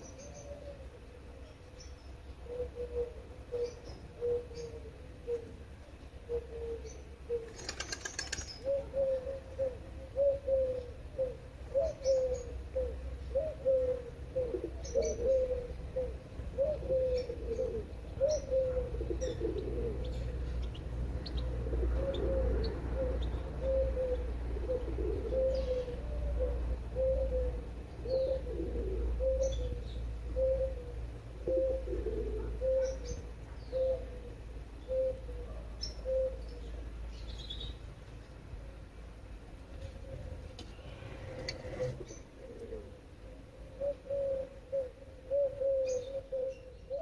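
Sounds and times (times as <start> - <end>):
birds calling low notes: 0.0 - 38.8, 39.8 - 47.0.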